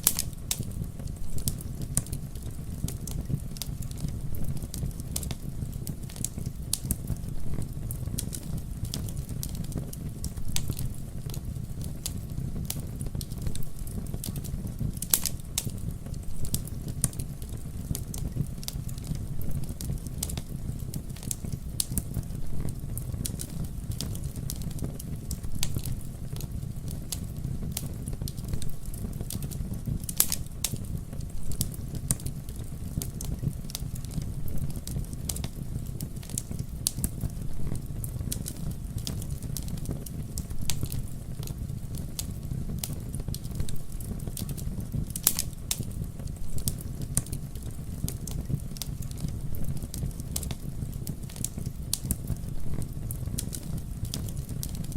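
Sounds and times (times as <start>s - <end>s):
campfire crackling: 0.0s - 54.9s
fire popping: 0.0s - 54.9s
loud fire snaps: 0.0s - 54.9s
low rumble of burning: 0.0s - 54.9s.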